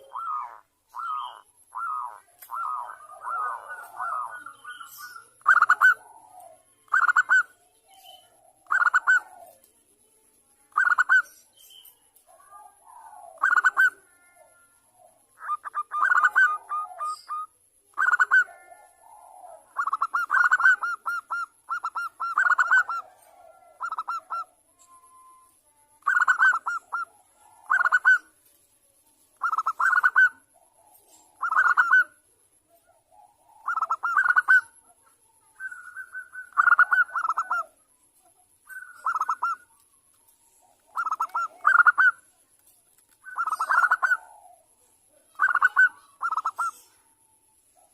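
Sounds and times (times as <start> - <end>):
dove trilled cooing: 0.0 - 9.7, 10.7 - 11.4, 12.3 - 28.4, 29.4 - 37.8, 38.4 - 39.8, 40.5 - 42.4, 43.2 - 47.9.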